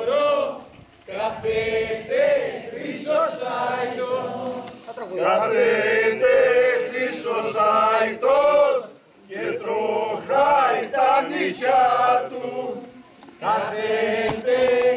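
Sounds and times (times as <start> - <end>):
men singing together: 0.0 - 14.9.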